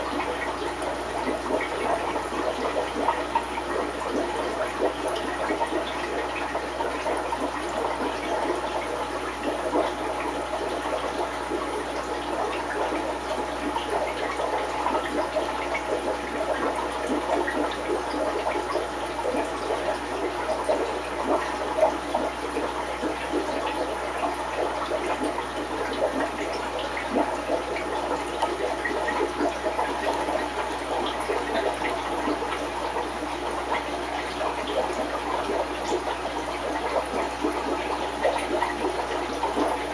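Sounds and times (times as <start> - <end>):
water bubbling and gurgling: 0.0 - 39.9.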